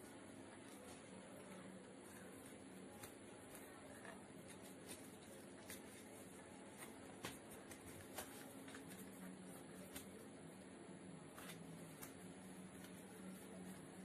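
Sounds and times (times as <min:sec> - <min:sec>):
paper rustling being folded: 0:00.6 - 0:10.2, 0:11.3 - 0:14.0.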